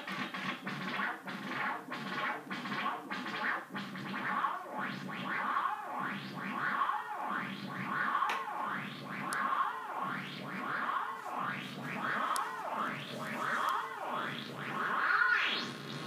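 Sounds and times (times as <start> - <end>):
buzzy synthesizer tone wandering in pitch: 0.0 - 16.0.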